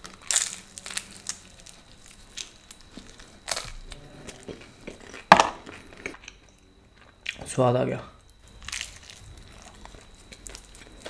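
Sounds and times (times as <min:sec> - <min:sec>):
crisp food crunched and chewed: 0:00.0 - 0:07.6, 0:08.2 - 0:11.0.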